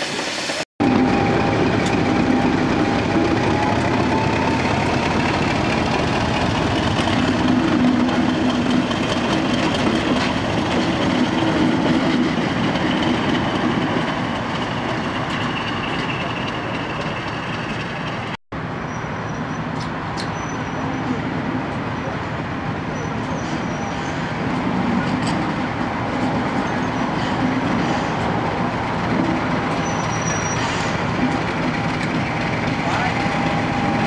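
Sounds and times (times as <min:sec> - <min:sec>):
diesel locomotive engine running: 0:00.0 - 0:18.4, 0:20.7 - 0:34.0.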